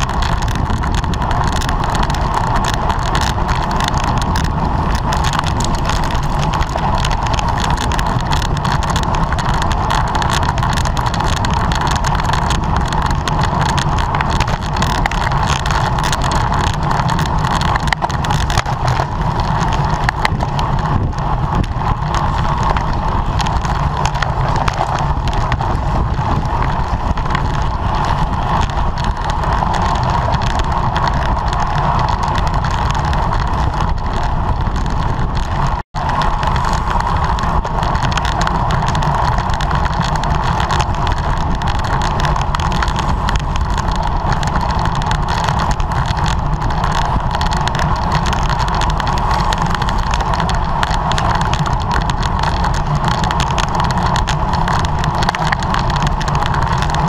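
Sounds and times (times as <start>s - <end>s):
tyres rumbling on road: 0.0s - 57.0s
wind buffeting microphone: 0.0s - 57.0s.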